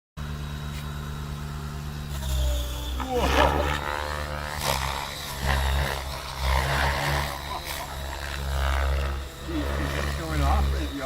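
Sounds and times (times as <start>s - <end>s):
model helicopter whine: 0.2s - 11.0s.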